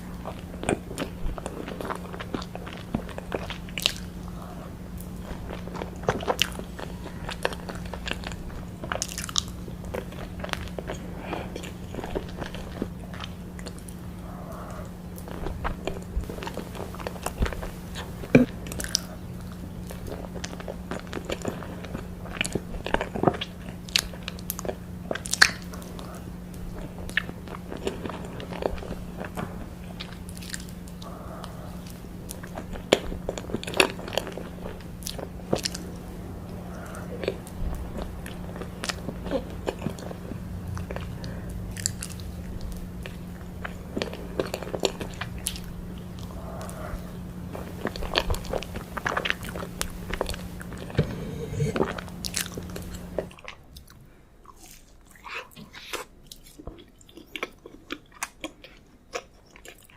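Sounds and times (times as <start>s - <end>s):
steady low hum: 0.0s - 58.7s
chewing cake: 0.0s - 59.9s.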